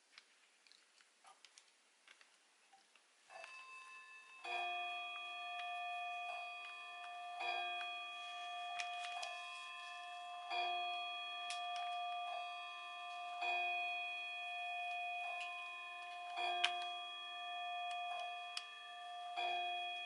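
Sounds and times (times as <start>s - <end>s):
bell-like chord: 3.4s - 20.0s.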